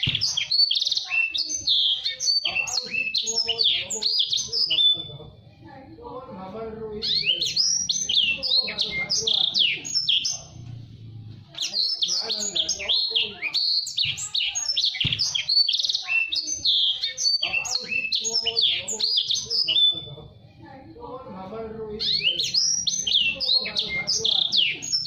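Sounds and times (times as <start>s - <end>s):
canary singing chirps and trills: 0.0s - 25.0s.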